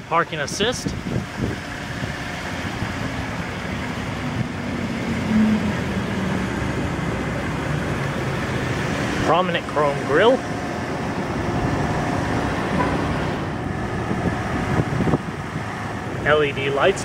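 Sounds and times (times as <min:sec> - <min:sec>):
motor vehicle hum and hiss: 0:00.0 - 0:17.0.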